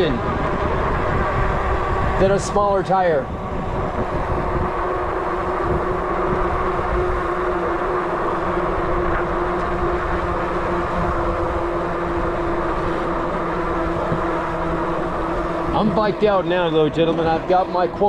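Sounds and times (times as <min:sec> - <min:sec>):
road drone of moving vehicle: 0:00.0 - 0:18.0.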